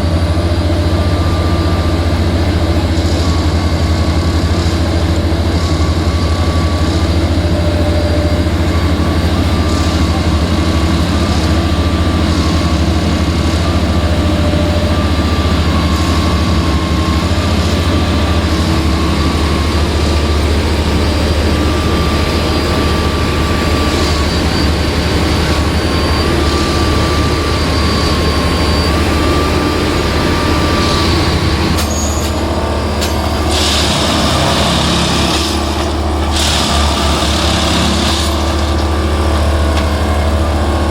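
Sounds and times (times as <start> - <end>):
low engine drone: 0.0 - 40.9
wavering whine: 0.0 - 40.9.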